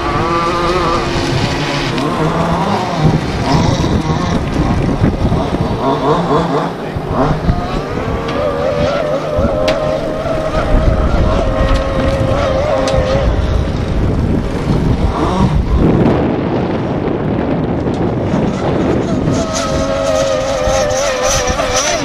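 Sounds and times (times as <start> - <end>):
model speedboat engine whine: 0.0 - 22.0
wind rumbling on microphone: 0.0 - 22.0.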